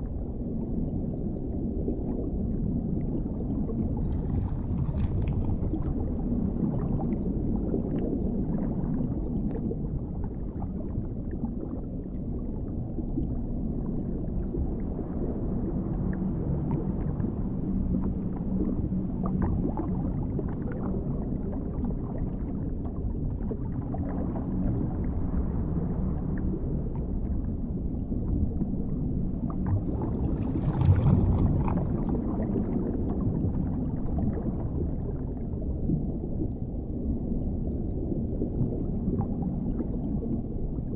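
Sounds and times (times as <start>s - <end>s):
deep muffled underwater rumble: 0.0s - 40.9s.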